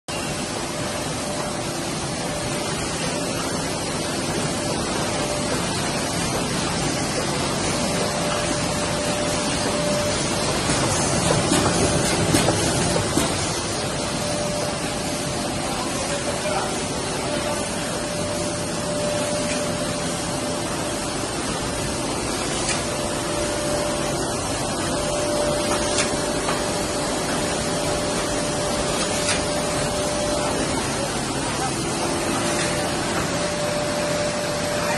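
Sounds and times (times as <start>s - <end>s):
printing press running: 0.1s - 34.9s
steady machine hum: 0.1s - 34.9s.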